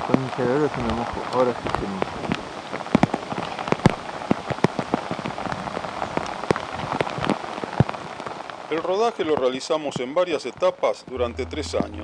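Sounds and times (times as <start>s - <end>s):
rain on foliage: 0.0s - 12.0s.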